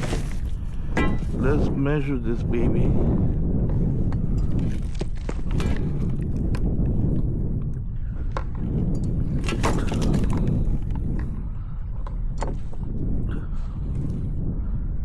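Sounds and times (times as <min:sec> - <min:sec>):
low steady rumble: 0:00.0 - 0:14.8.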